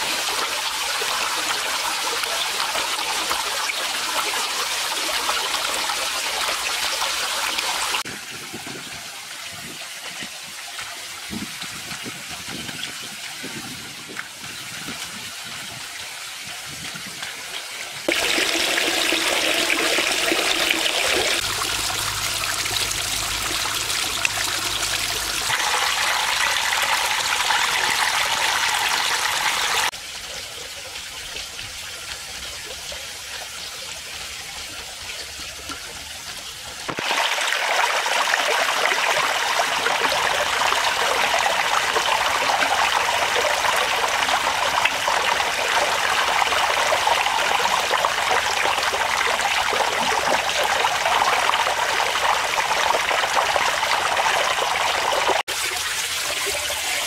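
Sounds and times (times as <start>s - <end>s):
waterfall trickling and splashing: 0.0s - 57.0s.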